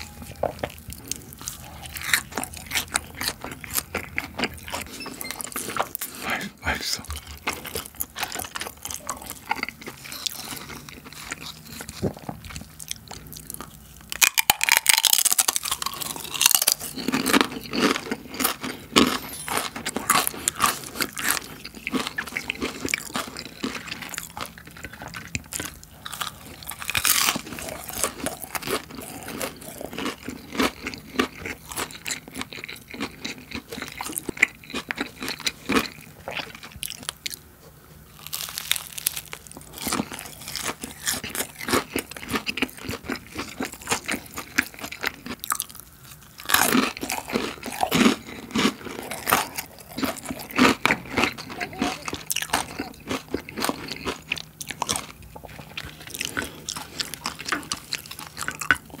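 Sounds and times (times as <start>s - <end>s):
crunchy chips being chewed: 0.0s - 59.0s.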